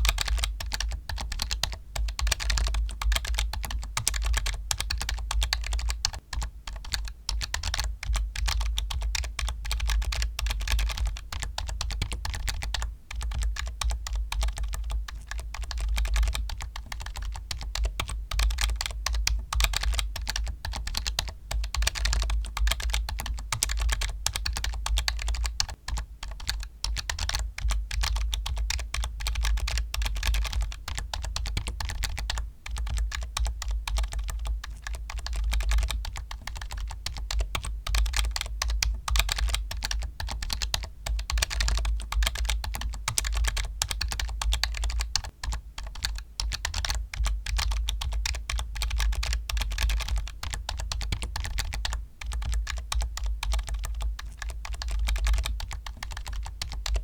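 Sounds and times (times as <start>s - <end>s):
fast typing on keyboard: 0.0s - 57.0s.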